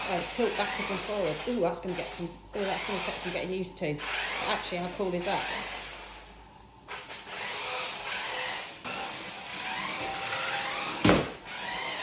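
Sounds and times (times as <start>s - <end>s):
remote-control car motors whirring: 0.0s - 12.0s.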